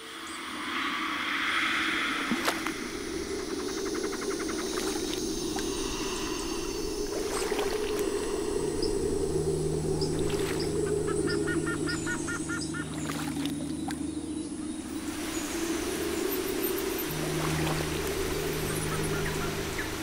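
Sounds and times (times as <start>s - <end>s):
low steady hum: 0.0s - 20.0s
river water rushing: 0.4s - 14.0s, 14.9s - 20.0s.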